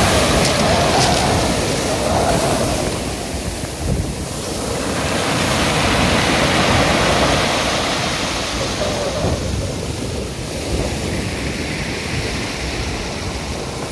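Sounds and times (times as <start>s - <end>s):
surf washing up pebble beach: 0.0s - 13.9s.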